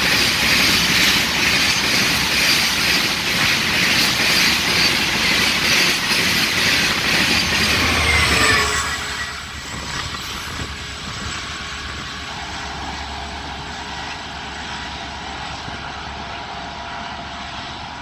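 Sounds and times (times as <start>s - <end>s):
diesel locomotive engine drone: 0.0s - 18.0s
rumble of passing wagons: 0.0s - 18.0s.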